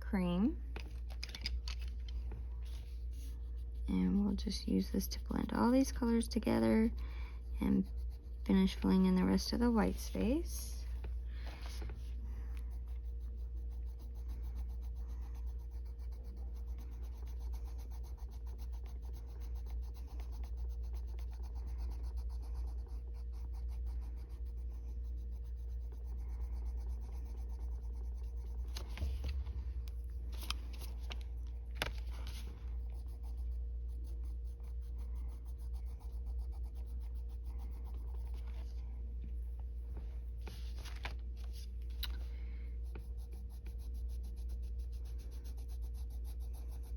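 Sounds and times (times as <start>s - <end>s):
low background hum: 0.0s - 46.9s
colored pencil scratching on paper: 1.0s - 46.9s.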